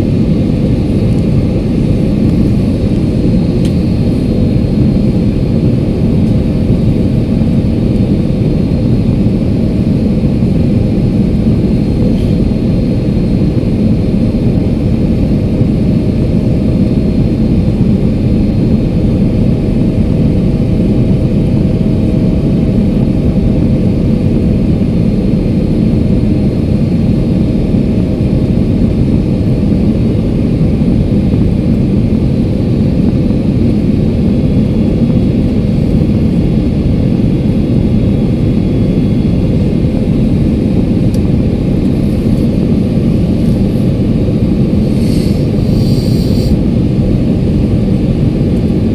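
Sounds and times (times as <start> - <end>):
faint steady whine: 0.0 - 48.9
jet engine and airflow rush: 0.0 - 48.9.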